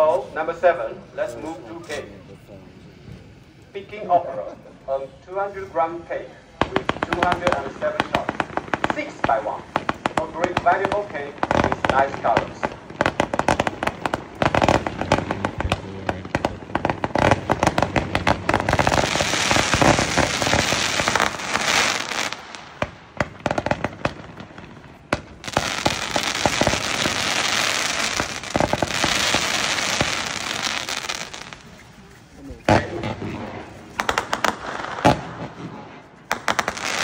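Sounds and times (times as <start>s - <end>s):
firework cracks and crackling: 6.6s - 37.0s.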